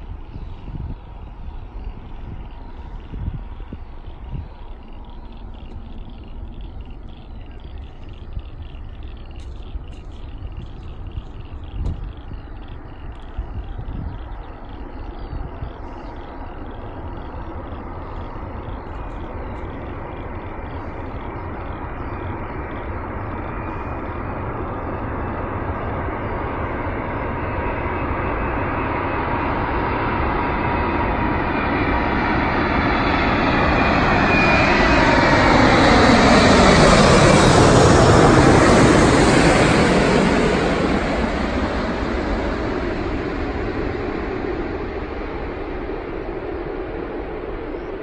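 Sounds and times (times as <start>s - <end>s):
jet engines roaring overhead: 0.0s - 48.0s
jet whine falling in pitch: 0.0s - 48.0s.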